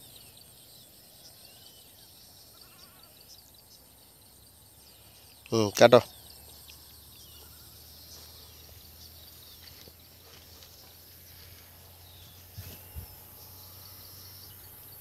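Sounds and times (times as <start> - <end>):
faint bird or insect chirps: 0.0 - 15.0.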